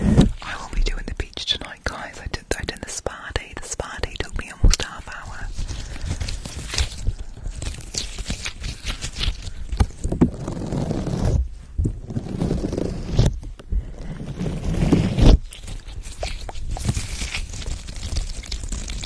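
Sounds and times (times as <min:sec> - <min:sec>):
rubbing against microphone: 0:00.0 - 0:19.0.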